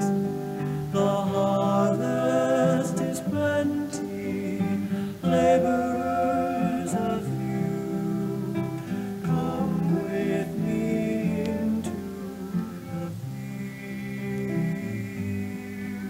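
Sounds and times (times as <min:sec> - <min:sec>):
hymn singing: 0:00.0 - 0:16.0
instrumental accompaniment: 0:00.0 - 0:16.0.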